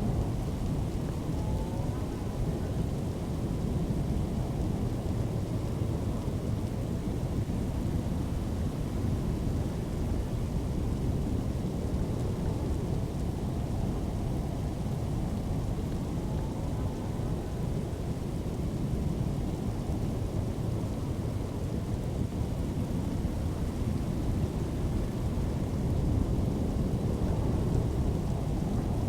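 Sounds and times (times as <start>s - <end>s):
low rumbling storm wind: 0.0s - 29.0s.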